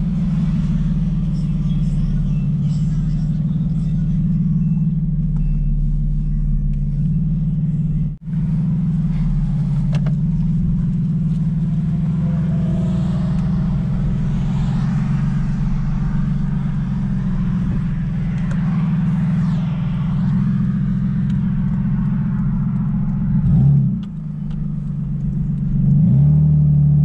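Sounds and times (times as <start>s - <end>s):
car engine drone from inside cabin: 0.0s - 27.0s
road noise: 0.0s - 27.0s.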